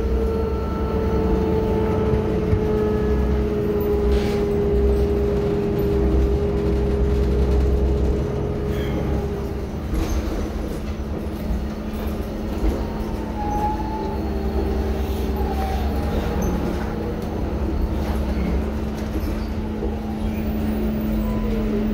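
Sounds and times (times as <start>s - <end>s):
bus interior drone and rumble: 0.0s - 21.9s.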